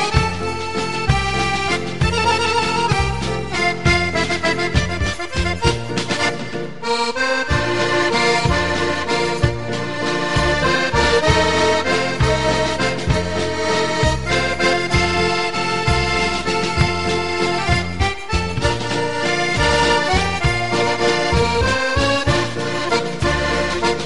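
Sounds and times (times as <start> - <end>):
accordion music: 0.0 - 24.0.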